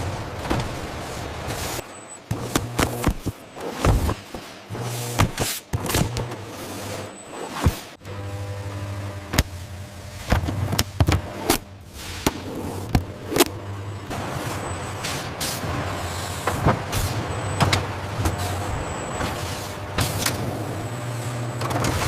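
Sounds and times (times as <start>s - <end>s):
machinery humming: 0.0s - 22.0s.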